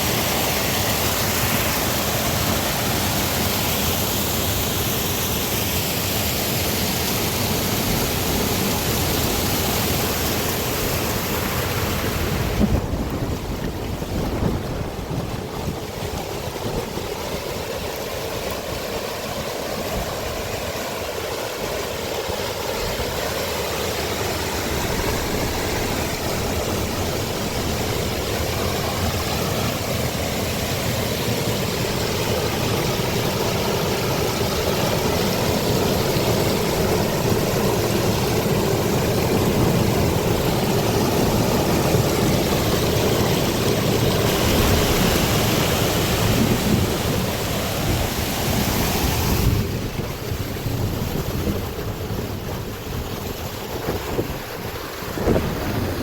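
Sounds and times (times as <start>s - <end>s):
heavy rain: 0.0s - 56.0s
running water: 0.0s - 56.0s.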